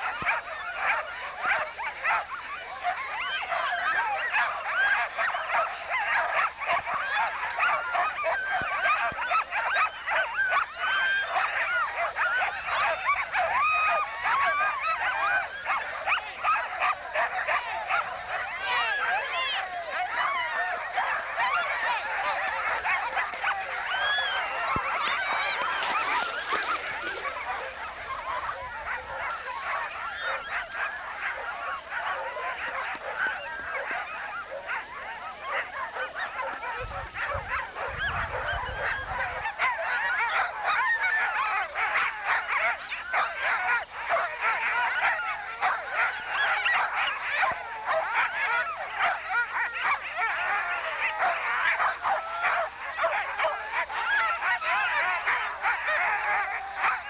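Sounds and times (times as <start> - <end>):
sled dogs yelping and yipping: 0.0 - 57.0.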